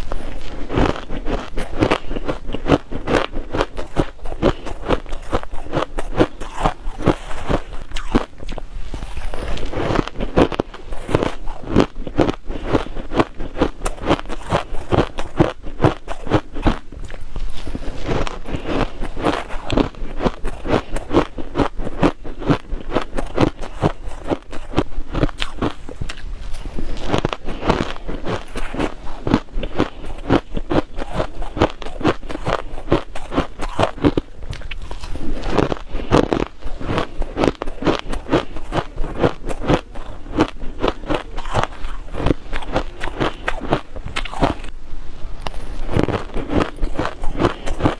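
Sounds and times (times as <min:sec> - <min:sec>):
ice being chewed: 0:00.0 - 0:44.7, 0:45.4 - 0:47.9.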